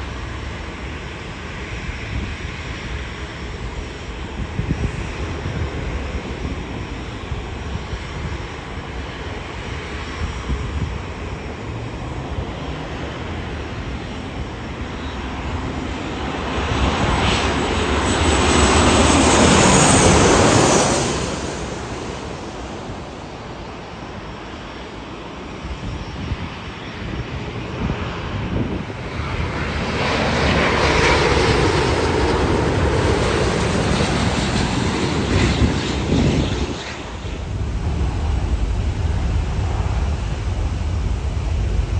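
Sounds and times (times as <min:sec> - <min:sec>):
jet engines passing: 0:00.0 - 0:25.7, 0:28.0 - 0:41.9.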